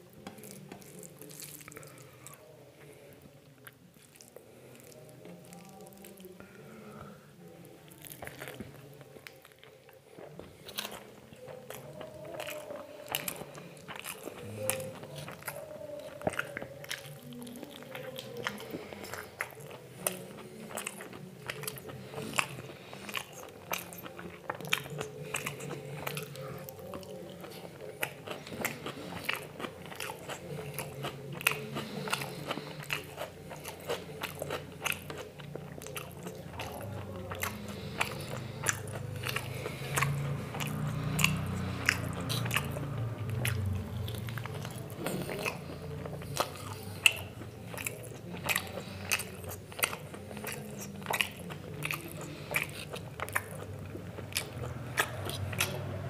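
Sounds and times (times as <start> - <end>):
person chewing and biting food: 7.9 - 56.0.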